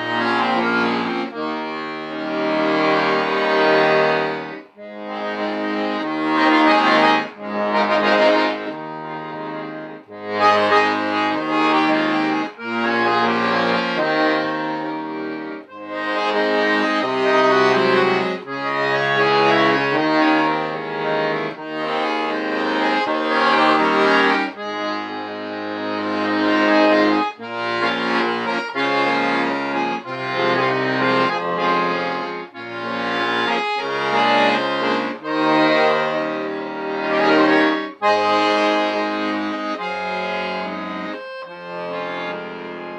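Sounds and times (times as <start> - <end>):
accordion chords: 0.0 - 42.9.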